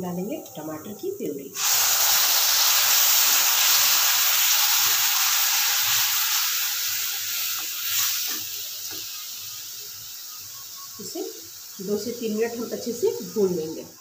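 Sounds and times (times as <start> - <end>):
sauce sizzling in pan: 0.2 - 14.0.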